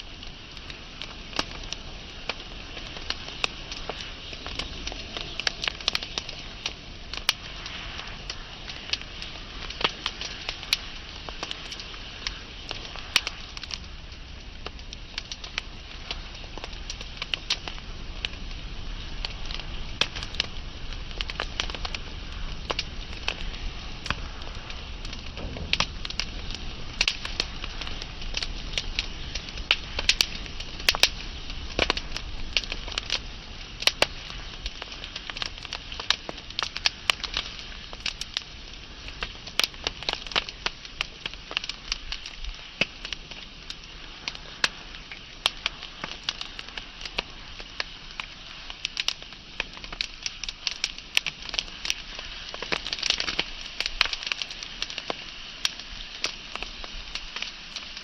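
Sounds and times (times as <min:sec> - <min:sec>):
flames hissing and rumbling: 0:00.0 - 0:58.0
wood fire crackling and popping: 0:00.0 - 0:58.0.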